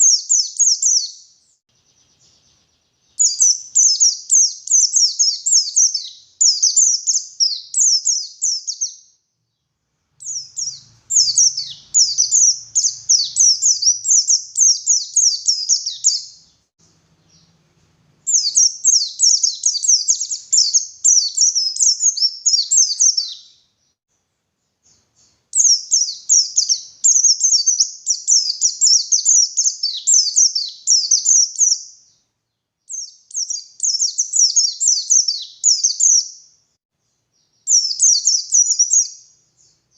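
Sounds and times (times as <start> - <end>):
bird twittering song: 0.0 - 17.6, 18.2 - 24.0, 24.6 - 39.9.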